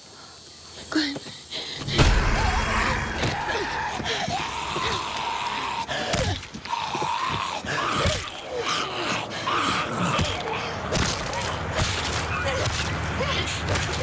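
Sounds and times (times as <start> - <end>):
zombie growling and snarling: 2.0 - 13.9.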